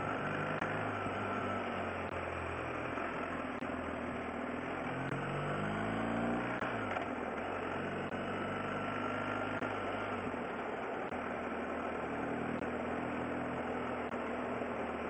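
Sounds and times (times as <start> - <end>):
motorcycle engine revving: 0.0 - 15.0
wind and road noise: 0.0 - 15.0.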